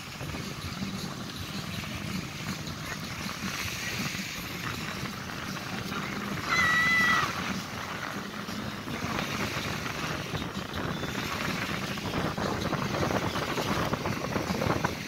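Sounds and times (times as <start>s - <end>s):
surf at the shore: 0.0s - 15.0s
wind: 0.0s - 15.0s.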